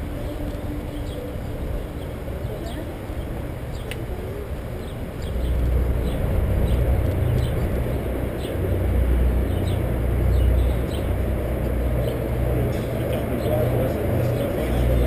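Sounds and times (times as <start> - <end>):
bicycle rolling on trail: 0.0 - 15.0
wind buffeting microphone: 0.0 - 15.0.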